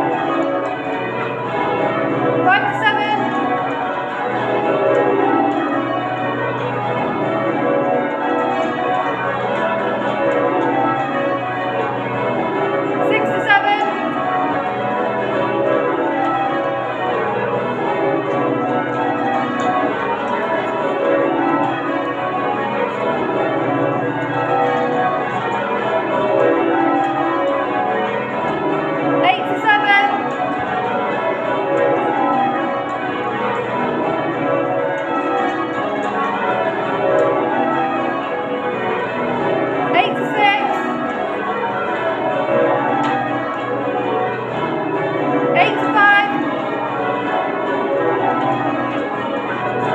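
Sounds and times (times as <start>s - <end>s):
church bells change ringing: 0.0s - 49.9s.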